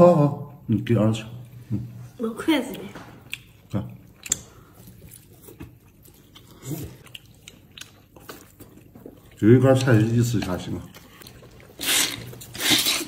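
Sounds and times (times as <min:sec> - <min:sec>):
soft chewing: 0:01.3 - 0:13.0.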